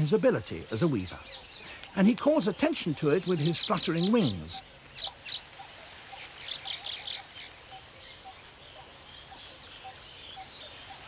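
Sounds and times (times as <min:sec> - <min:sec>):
birds chattering and chirping: 0:00.0 - 0:11.0.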